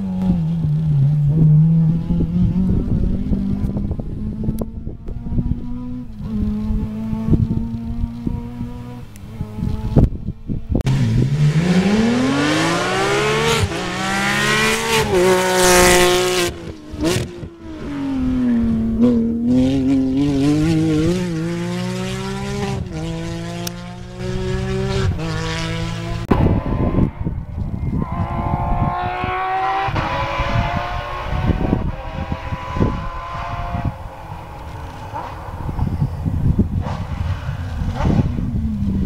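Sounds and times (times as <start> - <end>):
rally car engine at full throttle: 0.0 - 39.0.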